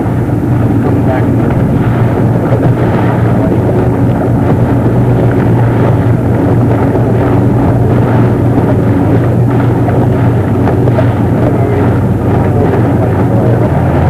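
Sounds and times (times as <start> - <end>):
low engine hum: 0.0 - 14.0
wind rumble on microphone: 0.0 - 14.0.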